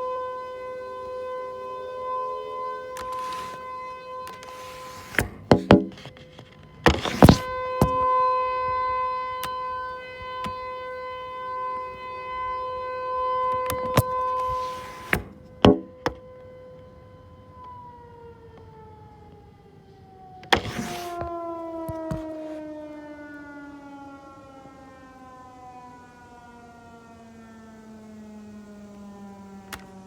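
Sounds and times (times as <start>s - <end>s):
warning siren winding down: 0.0s - 30.0s.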